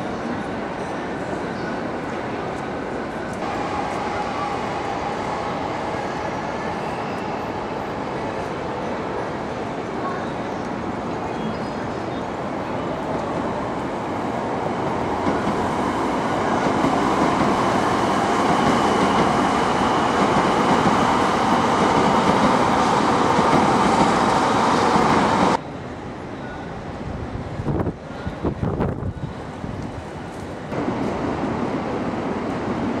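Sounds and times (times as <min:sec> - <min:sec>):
high-speed train rushing past: 0:00.0 - 0:33.0.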